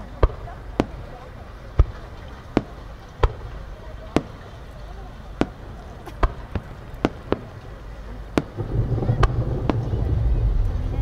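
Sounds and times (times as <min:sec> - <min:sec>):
firework bangs: 0:00.0 - 0:11.0
low steady rumble: 0:00.0 - 0:11.0.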